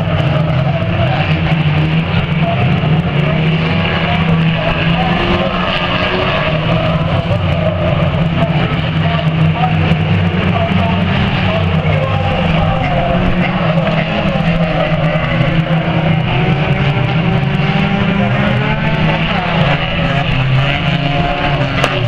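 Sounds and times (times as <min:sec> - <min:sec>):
cars passing close by: 0:00.0 - 0:22.0
racing car engines: 0:00.0 - 0:22.0.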